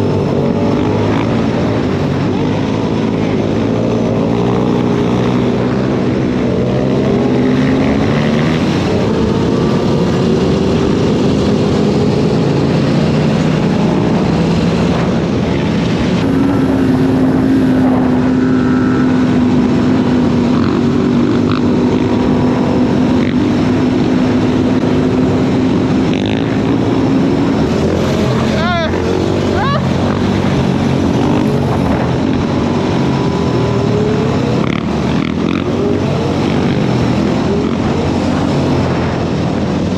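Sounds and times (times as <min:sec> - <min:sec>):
dirt bike engines running: 0:00.0 - 0:39.9.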